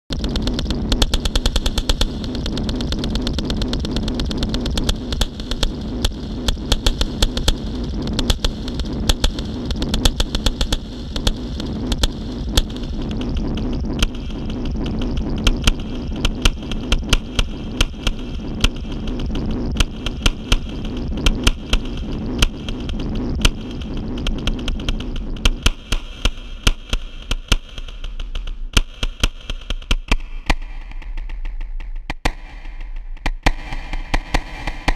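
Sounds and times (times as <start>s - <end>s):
electronic clicks and crackles: 0.1s - 34.9s
steady low drone: 0.1s - 34.9s.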